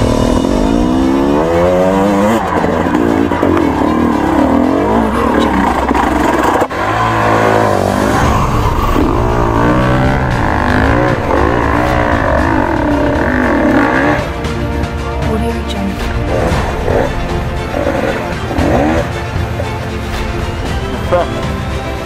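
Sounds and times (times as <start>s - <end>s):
dirt bike engine revving: 0.0s - 15.0s, 16.1s - 20.4s.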